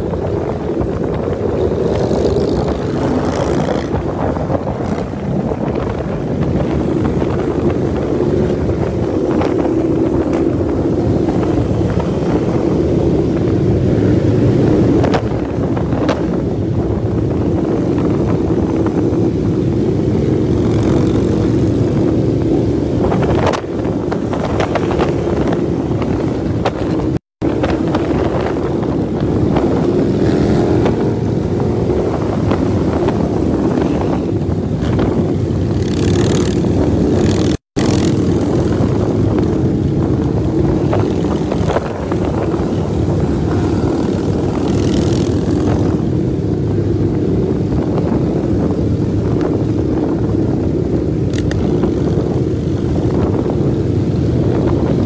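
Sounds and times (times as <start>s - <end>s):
motorcycle engines droning: 0.0s - 55.0s.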